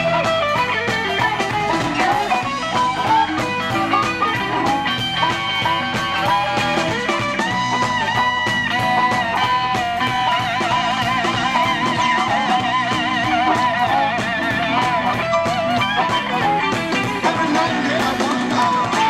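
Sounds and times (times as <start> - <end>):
drums: 0.0 - 19.0
electric bass: 0.0 - 19.0
electric guitar: 0.0 - 19.0
harmonica: 0.0 - 19.0
keyboard: 0.0 - 19.0.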